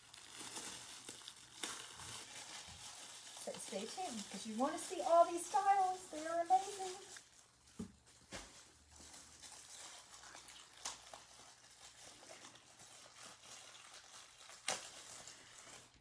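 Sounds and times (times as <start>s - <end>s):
packing wrap crinkling: 0.0s - 16.0s.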